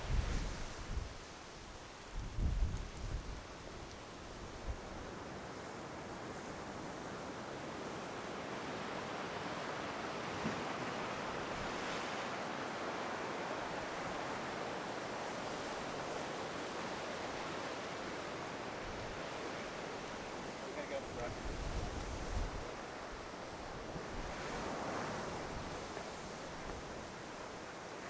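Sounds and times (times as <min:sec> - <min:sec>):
ocean surf breaking on shore: 0:04.1 - 0:28.0.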